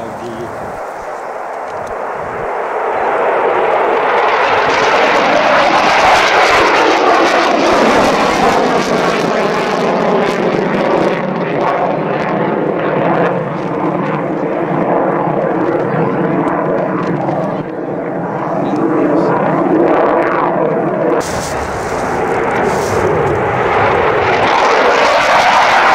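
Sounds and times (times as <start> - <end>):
jet engine roar: 0.0 - 25.9.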